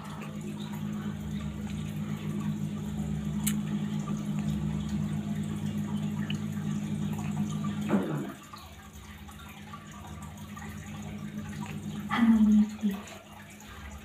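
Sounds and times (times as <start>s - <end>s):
pump humming: 0.0s - 14.0s
water trickling and bubbling: 0.0s - 14.0s.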